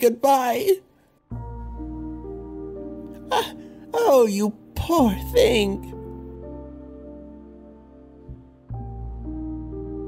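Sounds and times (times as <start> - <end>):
slow sustained background music: 0.0 - 10.0.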